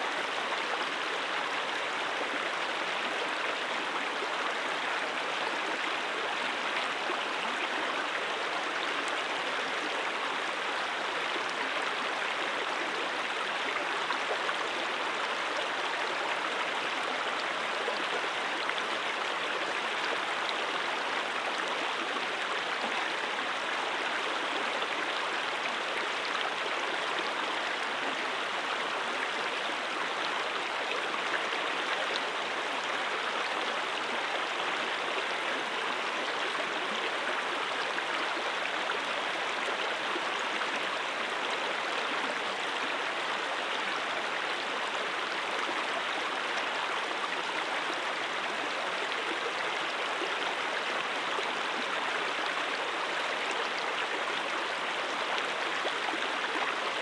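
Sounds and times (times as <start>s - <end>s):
brook water flowing: 0.0s - 57.0s.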